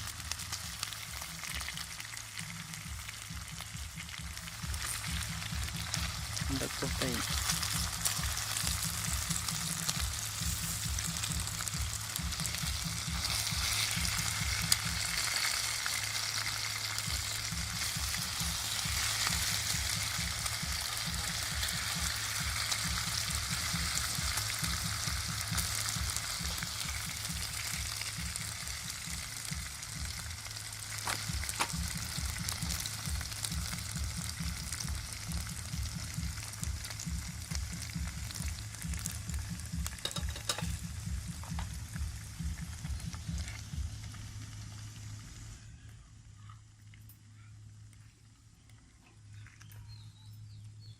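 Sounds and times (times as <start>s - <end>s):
ribs sizzling in hot oil: 0.0s - 45.6s.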